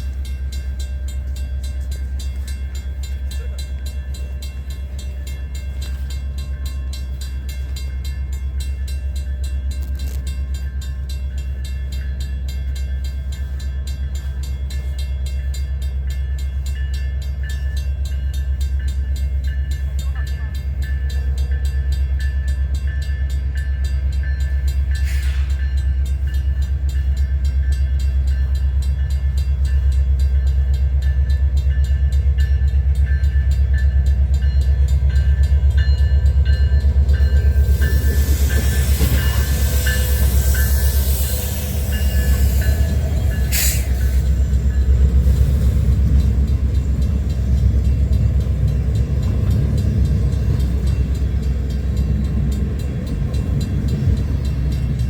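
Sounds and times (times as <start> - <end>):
train rumbling by: 0.0 - 55.0.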